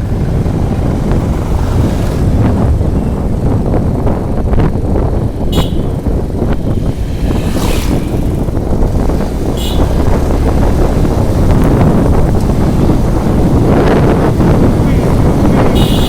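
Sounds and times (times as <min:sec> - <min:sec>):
motorcycle riding: 0:00.0 - 0:16.0
wind rumble on microphone: 0:00.0 - 0:16.0.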